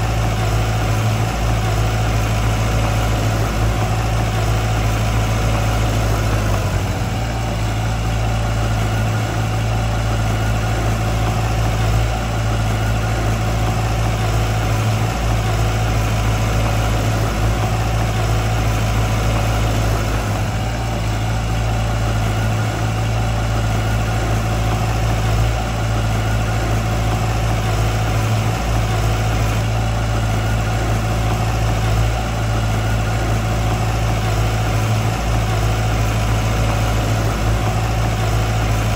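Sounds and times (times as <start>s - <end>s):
diesel engine running low: 0.0s - 38.9s.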